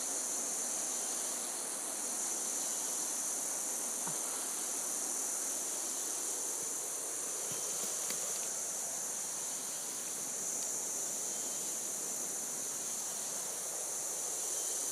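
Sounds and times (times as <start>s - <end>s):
high-pitched insect chorus: 0.0s - 14.9s.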